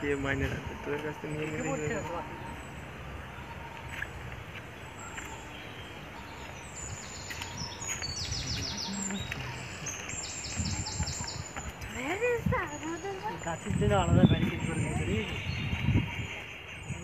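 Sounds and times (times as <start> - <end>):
outdoor background noise: 0.0 - 17.0
bird chirping high: 0.5 - 17.0.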